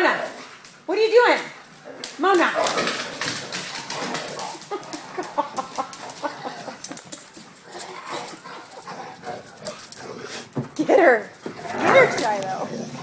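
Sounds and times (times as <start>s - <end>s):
dogs yipping and grumbling: 1.6s - 13.0s.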